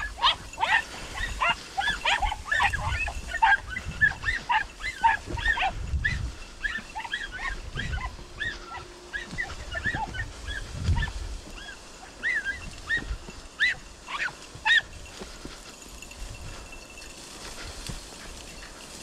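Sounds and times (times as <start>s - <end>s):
dogs yelping: 0.0s - 16.6s.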